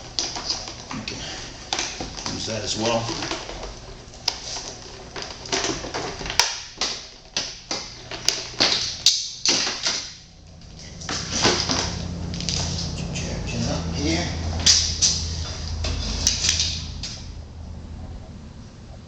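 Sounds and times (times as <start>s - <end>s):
charger cables and clamps clicking: 0.0s - 17.4s
low steady hum: 0.0s - 19.0s.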